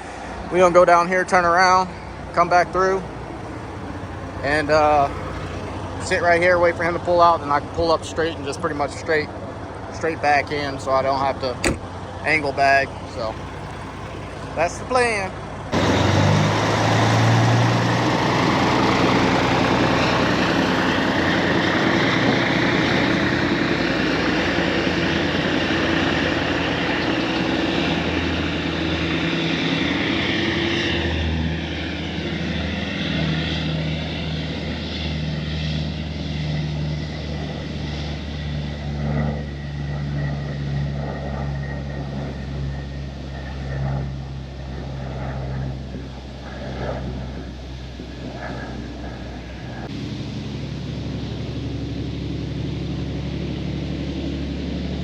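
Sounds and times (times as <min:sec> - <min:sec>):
engine whine: 0:00.0 - 0:55.0
truck diesel engine running: 0:00.0 - 0:55.0.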